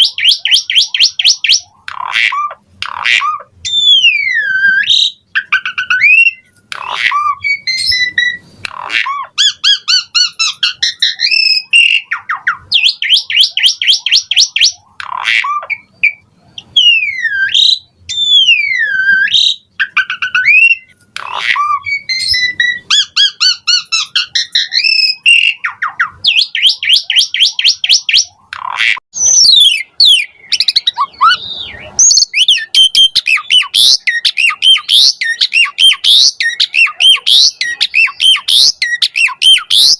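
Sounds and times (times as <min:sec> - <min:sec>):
starling singing varied song: 0:00.0 - 0:39.9.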